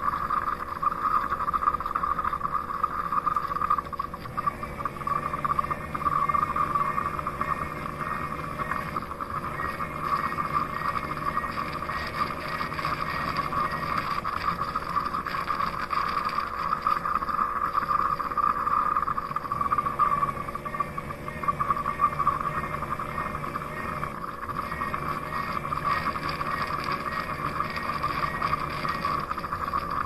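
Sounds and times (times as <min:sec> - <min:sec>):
robot vacuum motor whirring: 0:00.0 - 0:30.0.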